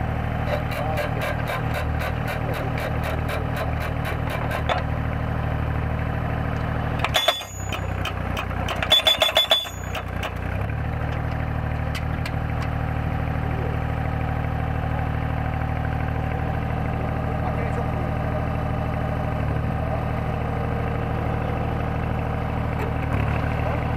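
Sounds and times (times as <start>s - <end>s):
machine engine running: 0.0s - 23.9s.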